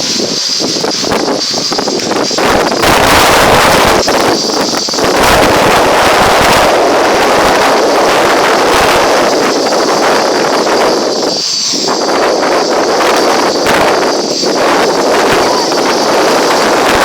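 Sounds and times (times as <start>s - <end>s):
drone motors whining: 0.0s - 17.0s
wind buffeting microphone: 0.0s - 17.0s.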